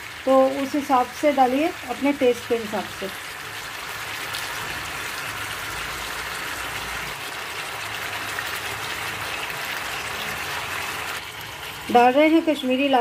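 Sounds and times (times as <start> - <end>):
chicken sizzling and crackling: 0.0 - 13.0.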